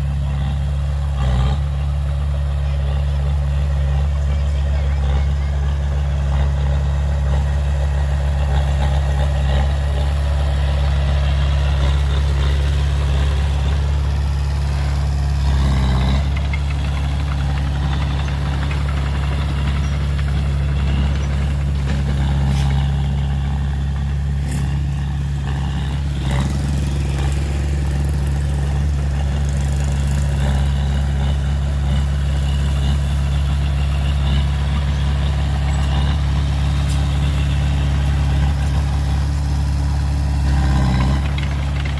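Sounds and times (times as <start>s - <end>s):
heavy diesel engine idling: 0.0s - 41.9s.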